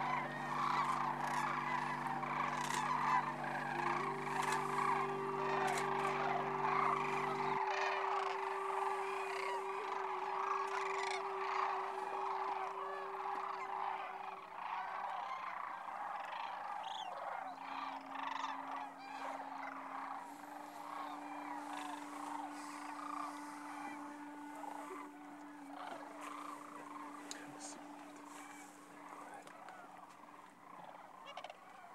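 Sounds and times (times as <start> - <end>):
flock of cranes calling: 0.0 - 31.9.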